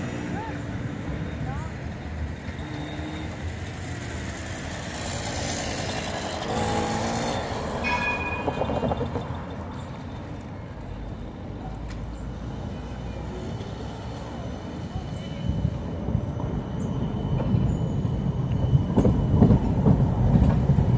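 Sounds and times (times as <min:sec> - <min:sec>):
street traffic: 0:00.0 - 0:20.9
tram wheels rumbling on rails: 0:00.0 - 0:20.9.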